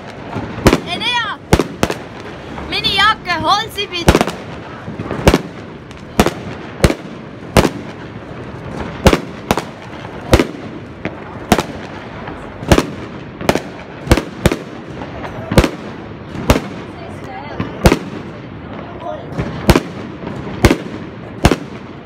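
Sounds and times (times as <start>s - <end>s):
fireworks bangs: 0.0s - 22.0s
steady background noise: 0.0s - 22.0s.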